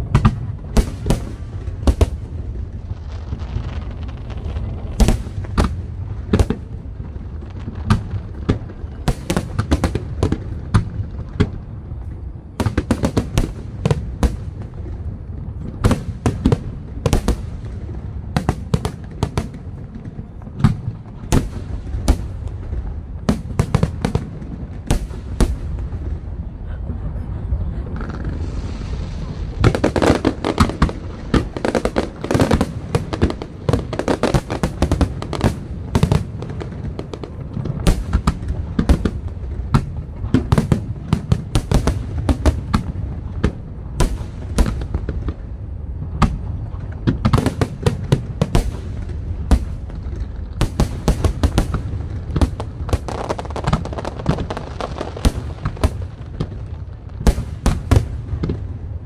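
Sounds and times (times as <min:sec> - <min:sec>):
continuous rumble: 0:00.0 - 0:59.0
fireworks bursting: 0:00.0 - 0:59.0.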